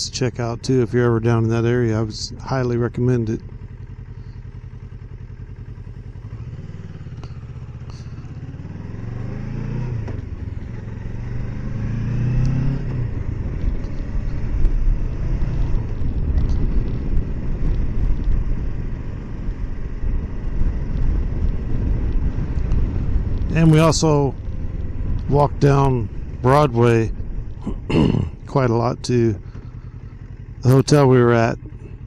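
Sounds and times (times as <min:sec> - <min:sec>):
motorcycle engine accelerating: 0:00.0 - 0:32.0
wind and road noise: 0:00.0 - 0:32.0.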